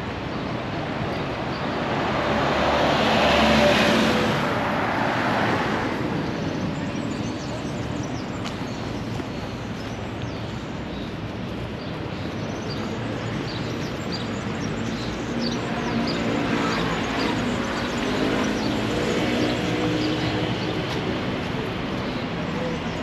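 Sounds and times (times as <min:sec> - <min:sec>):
steady traffic noise: 0:00.0 - 0:23.0.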